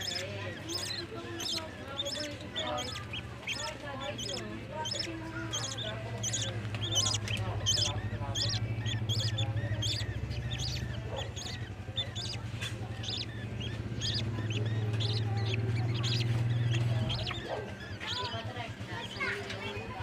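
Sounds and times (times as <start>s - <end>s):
budgerigars chirping: 0.0s - 20.0s
continuous low hum: 0.0s - 20.0s.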